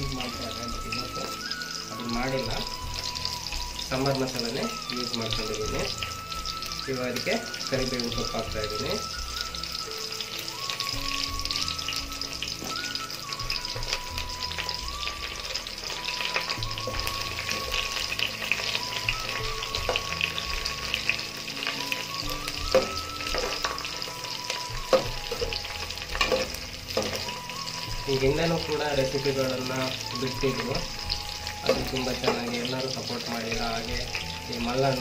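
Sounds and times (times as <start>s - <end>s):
onions sizzling in hot oil: 0.0s - 35.0s.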